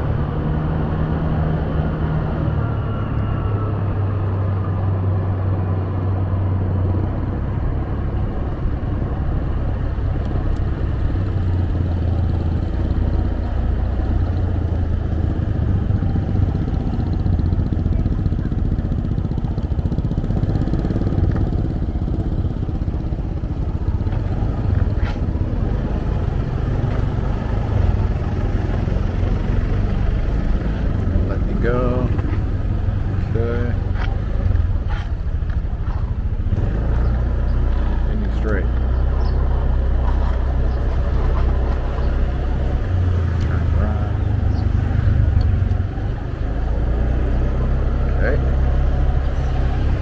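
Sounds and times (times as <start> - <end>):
road and wind rush: 0.0 - 50.0
motorbike engine running: 4.0 - 50.0.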